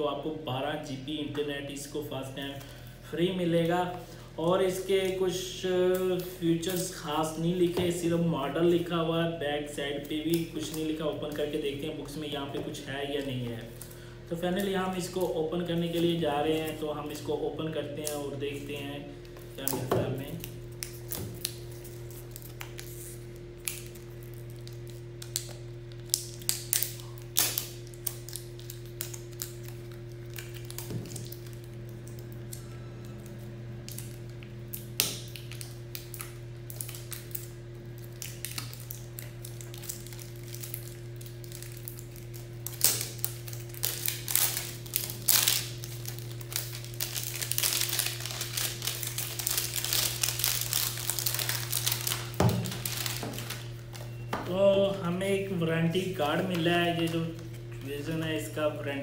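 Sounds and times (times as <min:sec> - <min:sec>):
plastic wrapping crinkling: 0:01.8 - 0:58.5.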